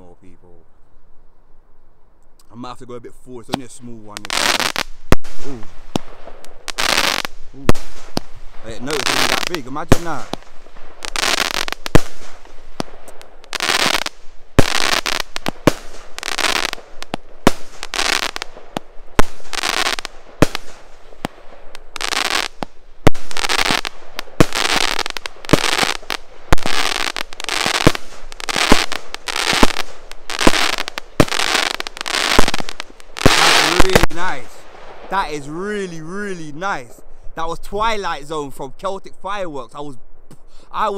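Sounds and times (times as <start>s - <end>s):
crackling: 2.2s - 38.7s
firework bangs: 3.5s - 37.0s.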